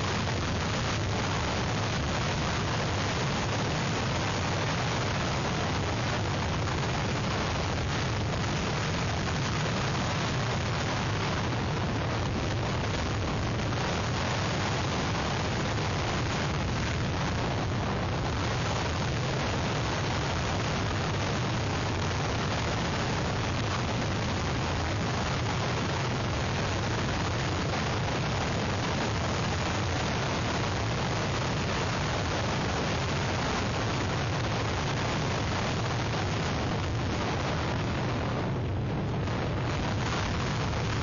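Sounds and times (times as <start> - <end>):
strong wind on microphone: 0.0 - 41.0.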